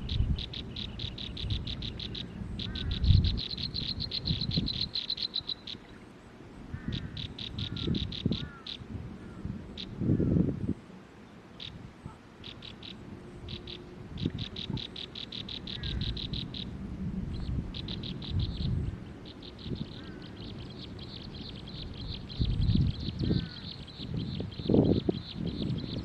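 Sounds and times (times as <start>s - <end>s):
small bird calling rapidly: 0.0s - 6.0s, 6.7s - 10.4s, 11.5s - 16.7s, 17.4s - 26.0s.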